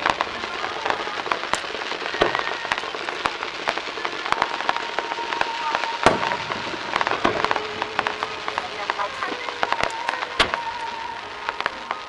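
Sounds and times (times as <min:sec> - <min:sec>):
fireworks crackling: 0:00.0 - 0:12.0
loud firework bang: 0:00.0 - 0:12.0.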